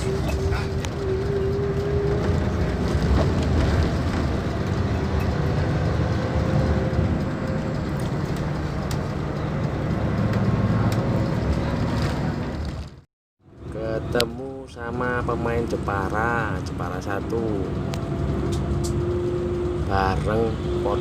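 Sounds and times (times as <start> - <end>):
bus engine drone: 0.0 - 21.0
road noise: 0.0 - 21.0.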